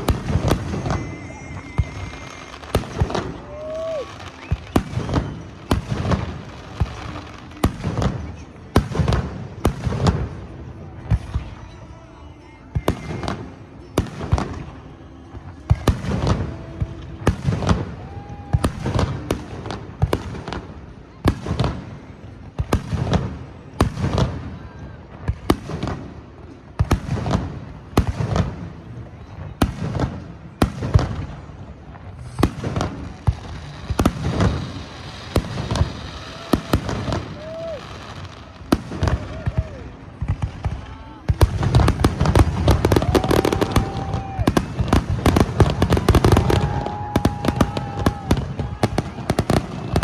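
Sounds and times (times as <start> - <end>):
fireworks bangs and booms: 0.0 - 50.0.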